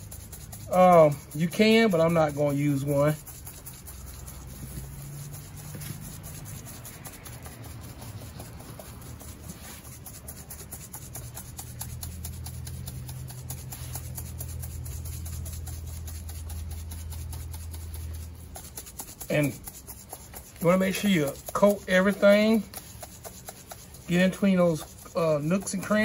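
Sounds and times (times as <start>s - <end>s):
hands rubbing spices on meat: 0.0s - 26.0s
steady low hum: 0.0s - 26.0s.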